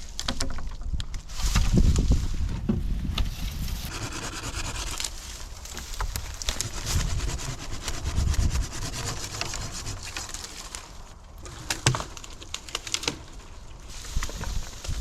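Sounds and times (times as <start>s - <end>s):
sharp wood cracks: 0.0s - 1.8s, 3.9s - 15.0s
wood scraping and crackling: 0.0s - 15.0s.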